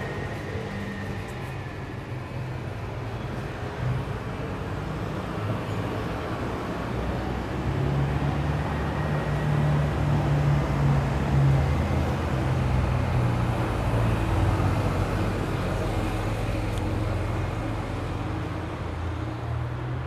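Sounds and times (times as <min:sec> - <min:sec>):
town street noise: 0:00.0 - 0:20.0.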